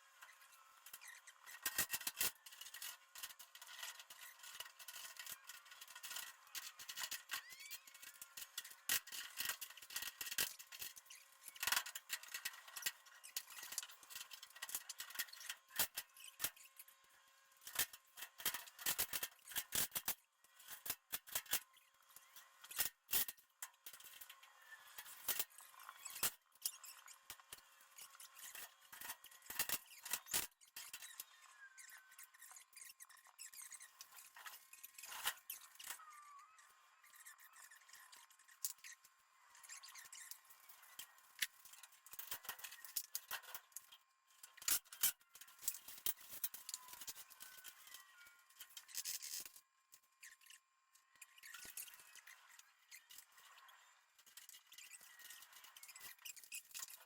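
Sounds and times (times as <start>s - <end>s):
hand tools clicking and scraping metal: 0.2s - 16.9s, 17.6s - 57.0s.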